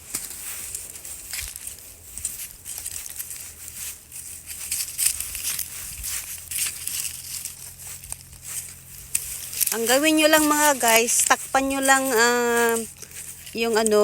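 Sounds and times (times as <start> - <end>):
leaves and soil crunching: 0.0 - 14.0.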